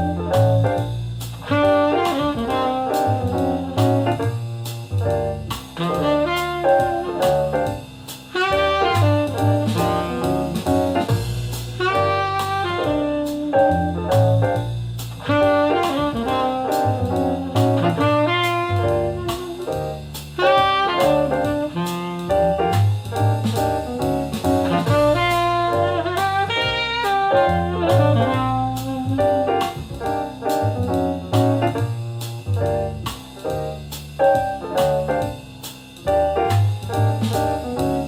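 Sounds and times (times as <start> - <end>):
drum kit beat: 0.0 - 38.0
jazz saxophone: 0.0 - 38.0
walking bass line: 0.0 - 38.0.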